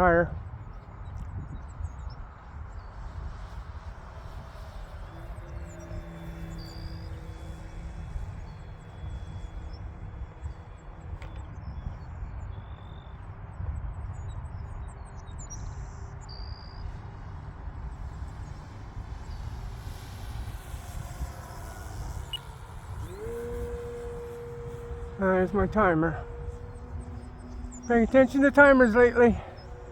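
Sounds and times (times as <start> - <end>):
model airplane motor: 0.0 - 14.0, 16.8 - 29.9
wind rumbling on microphone: 0.0 - 29.9.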